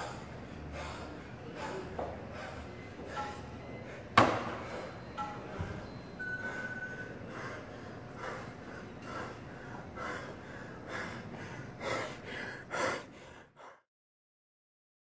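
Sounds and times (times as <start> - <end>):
man panting hard: 0.0 - 13.9.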